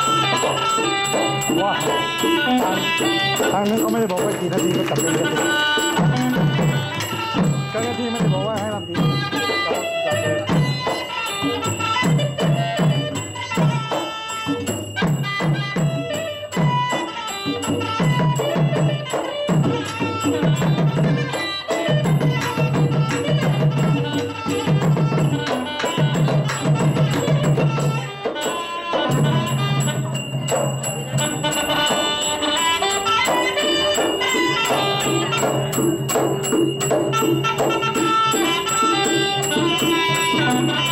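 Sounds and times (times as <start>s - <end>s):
drum strokes: 0.0s - 40.9s
small percussion: 0.0s - 40.9s.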